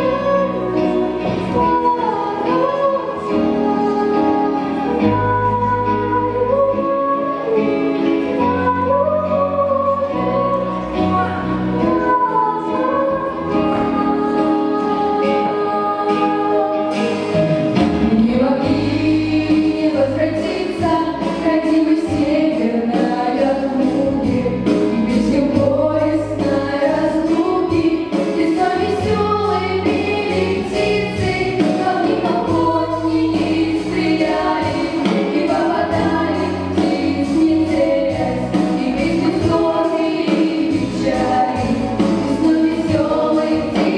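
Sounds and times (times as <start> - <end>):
girls singing in harmony: 0.0 - 43.9
instrumental accompaniment: 0.0 - 43.9.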